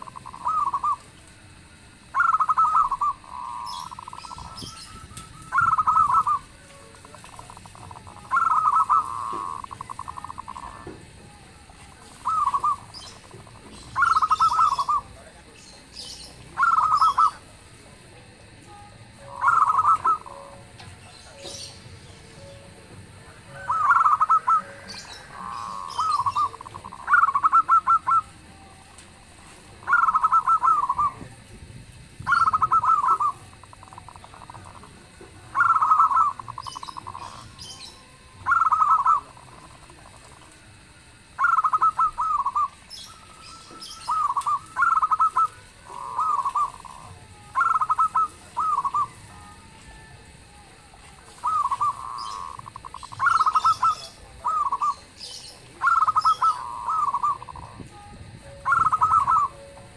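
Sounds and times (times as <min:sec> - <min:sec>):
dove cooing: 0:00.0 - 0:18.4, 0:19.0 - 0:59.9
faint high bird chirps: 0:00.0 - 0:31.6, 0:32.2 - 0:59.9.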